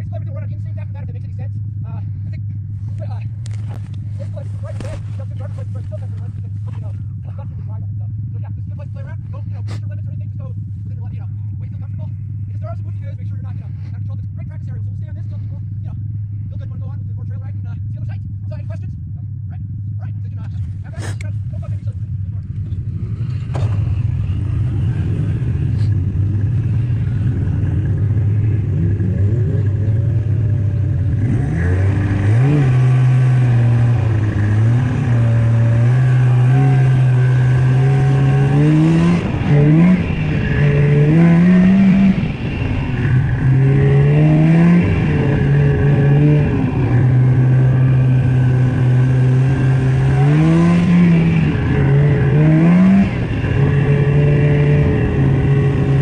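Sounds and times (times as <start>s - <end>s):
snowmobile engine revving: 2.1s - 16.0s, 20.2s - 56.0s.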